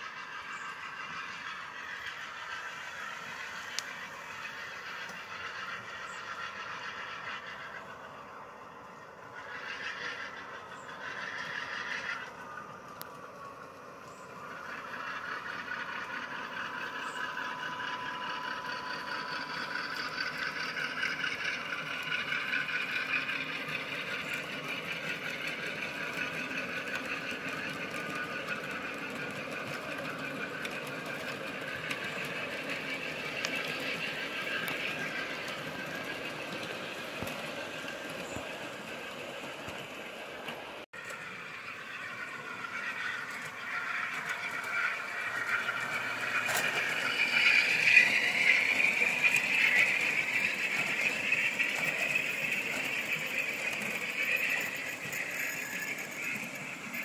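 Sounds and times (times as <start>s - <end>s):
model train diesel engine sound: 0.0s - 57.0s
train wheels rolling on rails: 0.0s - 57.0s.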